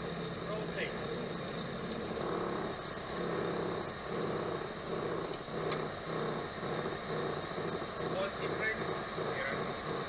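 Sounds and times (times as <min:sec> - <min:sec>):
cockpit engine hum pulsing: 0:00.0 - 0:10.0.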